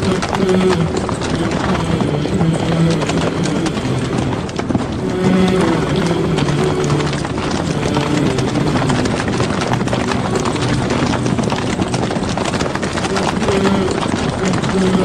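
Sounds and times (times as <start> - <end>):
horses galloping: 0.0 - 15.0
low voices calling: 0.0 - 15.0.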